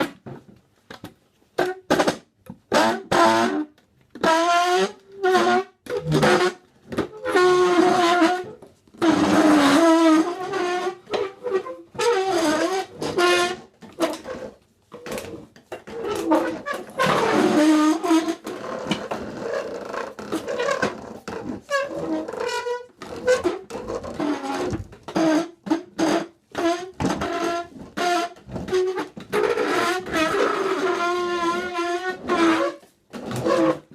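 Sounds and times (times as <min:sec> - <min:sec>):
chairs scraping on floor: 0:05.2 - 0:33.9.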